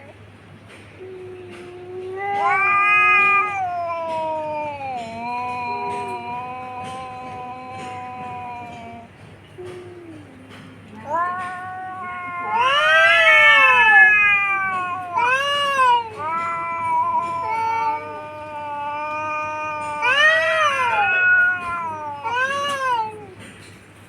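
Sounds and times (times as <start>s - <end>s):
cats yowling: 1.0s - 23.8s.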